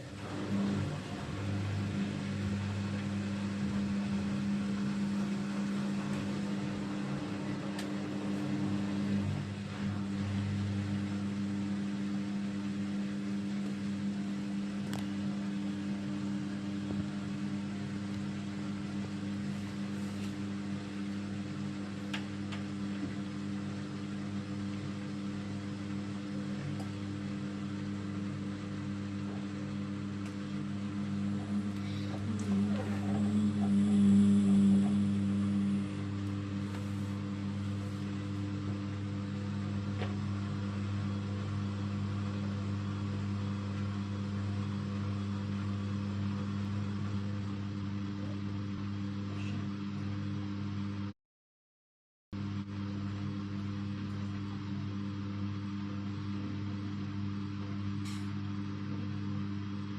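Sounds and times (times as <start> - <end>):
washing machine motor hum: 0.0 - 51.1, 52.4 - 59.9.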